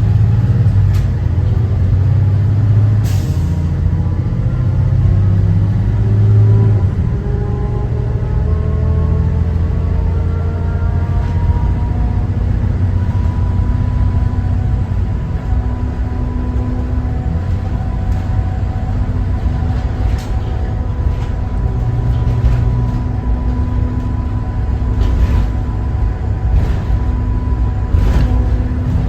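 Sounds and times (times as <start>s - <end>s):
diesel engine running: 0.0s - 29.0s
road rumble: 0.0s - 29.0s.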